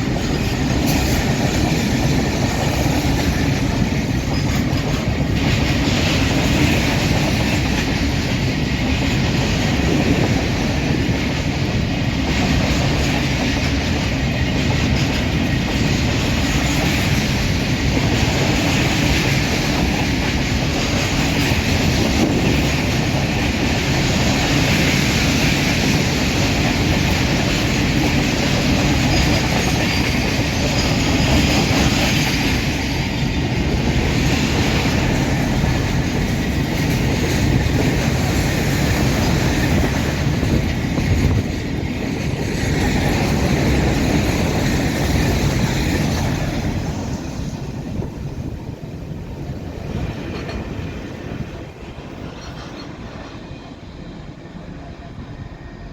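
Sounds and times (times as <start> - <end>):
train passing at speed: 0.0 - 55.9.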